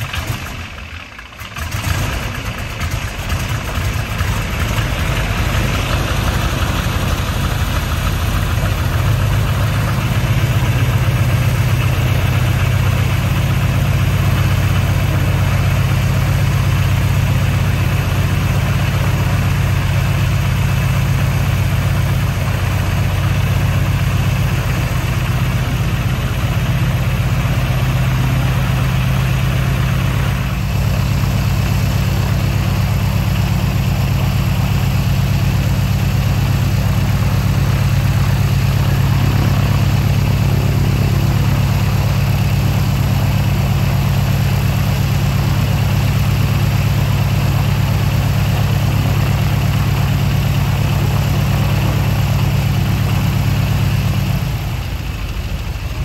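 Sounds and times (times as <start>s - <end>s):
radial aircraft engine idling: 0.0s - 56.0s.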